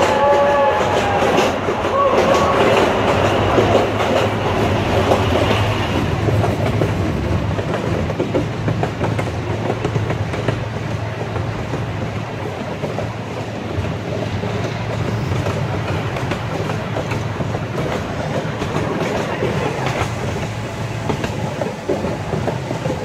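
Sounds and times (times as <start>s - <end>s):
low rumble echoing in tunnel: 0.0s - 23.0s
train wheels clicking rapidly: 0.0s - 23.0s.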